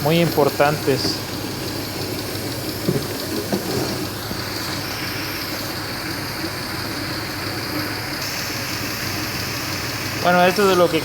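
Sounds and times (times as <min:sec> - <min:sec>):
misfiring car engine idling: 0:00.0 - 0:11.0.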